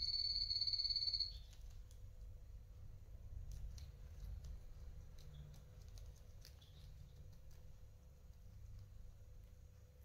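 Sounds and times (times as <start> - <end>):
guinea pig chewing vegetables: 1.0 - 10.0.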